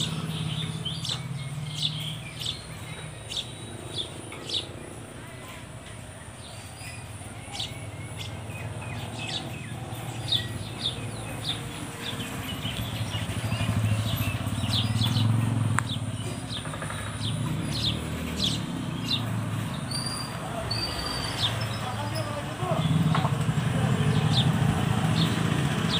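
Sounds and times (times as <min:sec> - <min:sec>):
sparrows chirping: 0:00.0 - 0:25.9.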